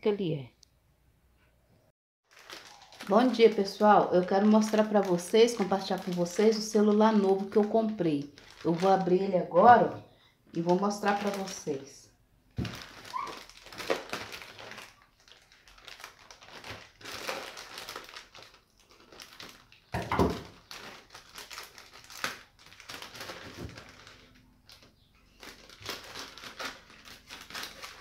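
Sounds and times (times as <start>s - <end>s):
plastic bag crinkling: 2.2s - 9.4s, 10.4s - 12.0s, 12.6s - 28.0s.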